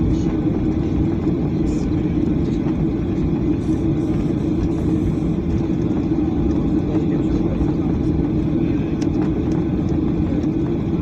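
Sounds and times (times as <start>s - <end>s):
jet engines rumbling: 0.0s - 11.0s
steady cabin hum: 0.0s - 11.0s.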